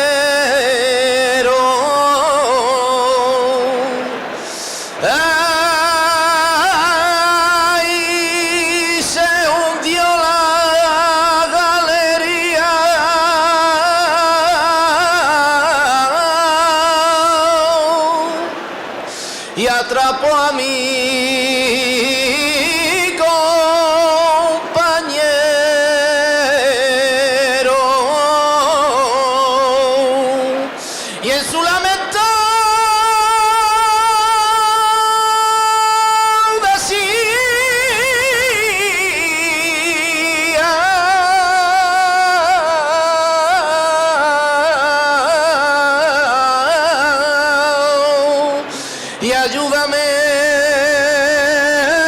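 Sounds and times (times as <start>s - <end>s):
man singing unaccompanied: 0.0s - 52.0s.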